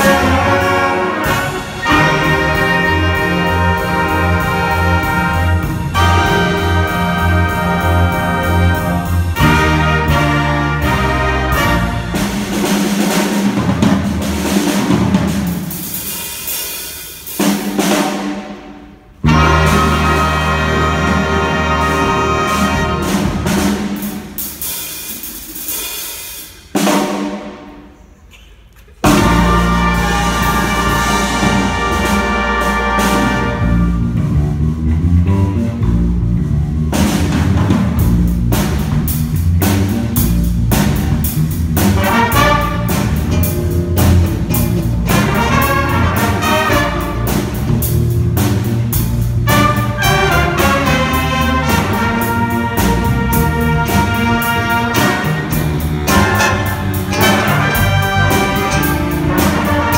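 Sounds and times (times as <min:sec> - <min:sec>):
jazz band playing funk: 0:00.0 - 0:27.9, 0:28.9 - 0:59.9.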